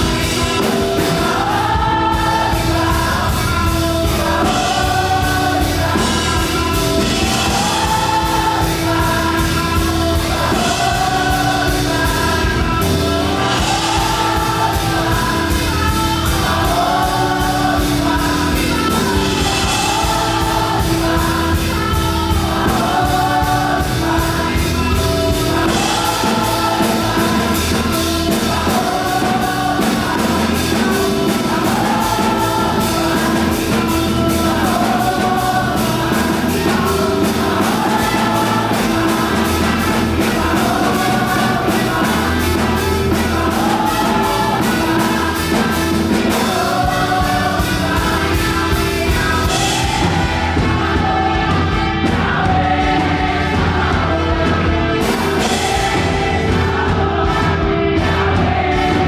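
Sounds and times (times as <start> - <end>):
band with fast driving beat: 0.0 - 59.0
group of voices singing: 0.0 - 59.0.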